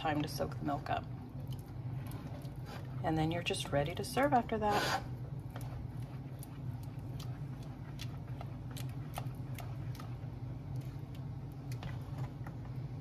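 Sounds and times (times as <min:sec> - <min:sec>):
spoon stirring oatmeal in pot: 0:00.0 - 0:13.0
steady low hum: 0:00.0 - 0:13.0.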